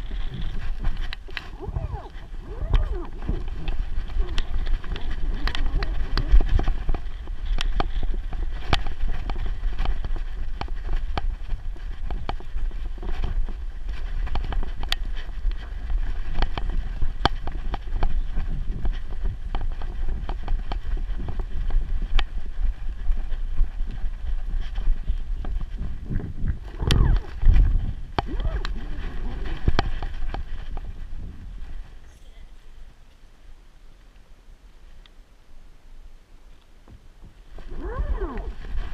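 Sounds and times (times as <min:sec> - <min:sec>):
wind on microphone: 0:00.0 - 0:33.0, 0:36.9 - 0:38.9.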